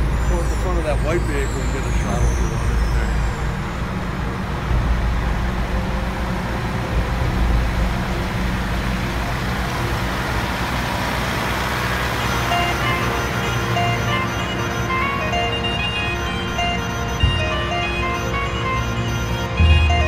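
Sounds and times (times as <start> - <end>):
fire engine running: 0.0 - 20.0.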